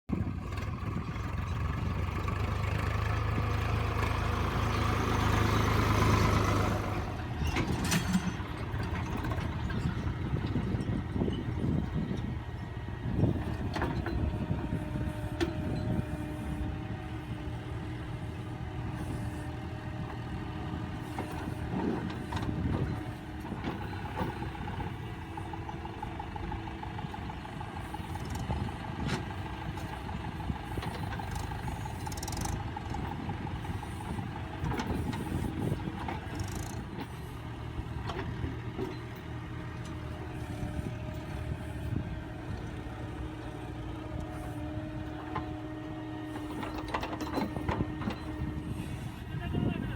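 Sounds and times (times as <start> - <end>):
diesel tractor engine under load: 0.1 - 49.9.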